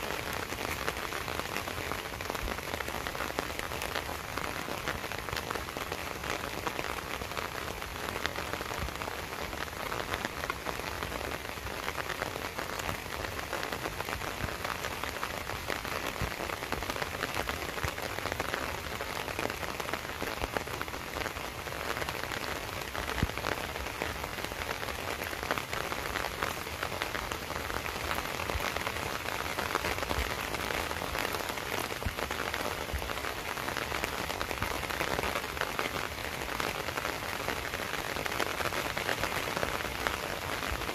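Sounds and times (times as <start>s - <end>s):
raindrops ticking: 0.0s - 40.9s
steady rain falling: 0.0s - 40.9s.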